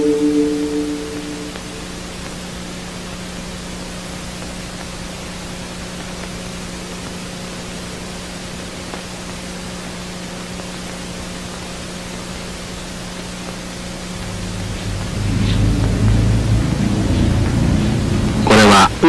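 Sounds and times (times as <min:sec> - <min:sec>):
low electrical hum: 0:00.0 - 0:19.0
recording hiss: 0:00.0 - 0:19.0.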